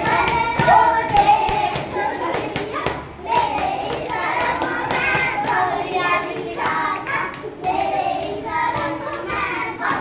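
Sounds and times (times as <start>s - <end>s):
children singing: 0.0s - 10.0s
hand claps: 0.0s - 10.0s.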